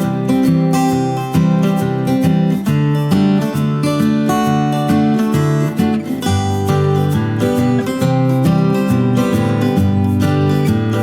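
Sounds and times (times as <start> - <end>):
acoustic guitar picked and strummed: 0.0 - 11.0.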